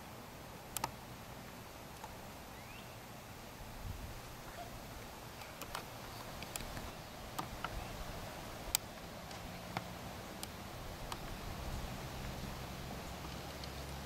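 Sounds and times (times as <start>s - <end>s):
faint outdoor background: 0.0s - 14.0s.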